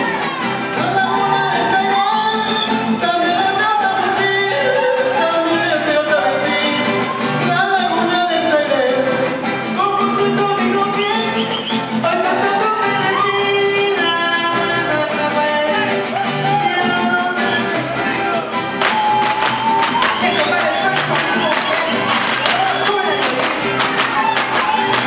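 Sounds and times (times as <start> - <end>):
strummed guitars: 0.0 - 25.0.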